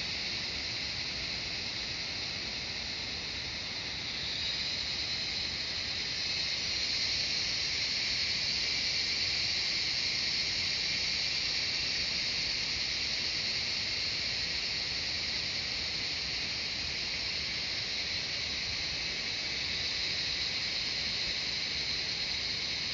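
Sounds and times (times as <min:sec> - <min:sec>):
cicadas buzzing: 0:00.0 - 0:22.9.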